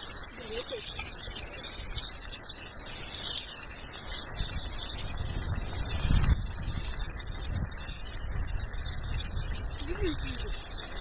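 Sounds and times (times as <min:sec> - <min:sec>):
campfire hissing: 0:00.0 - 0:11.0.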